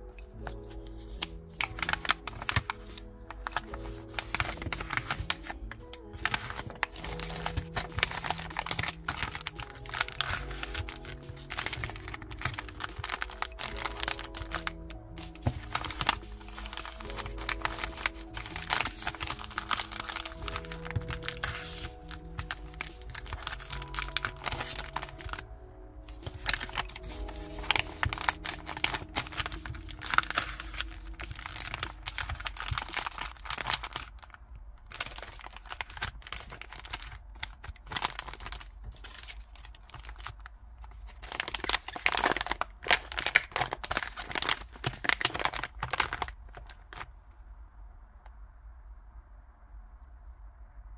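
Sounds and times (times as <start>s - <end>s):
plastic bags crinkling: 0.0s - 47.1s
soft background music: 0.0s - 50.9s.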